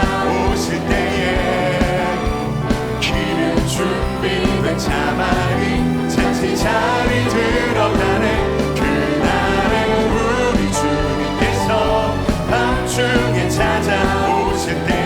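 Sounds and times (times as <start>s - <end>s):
full band playing: 0.0s - 15.0s
singers in harmony: 0.0s - 15.0s.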